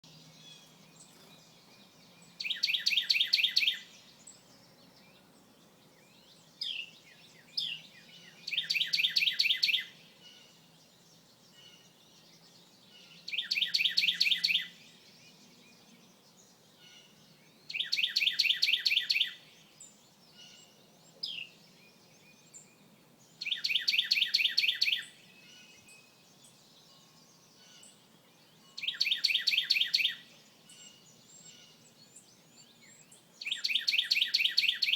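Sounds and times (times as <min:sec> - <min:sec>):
songbird trilling: 0:00.1 - 0:34.9.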